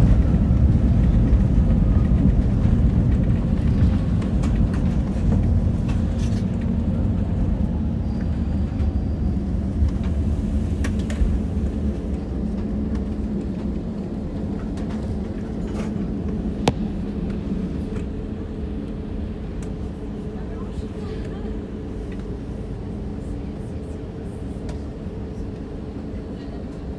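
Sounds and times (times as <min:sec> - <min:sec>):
airplane cabin rumble: 0:00.0 - 0:26.9.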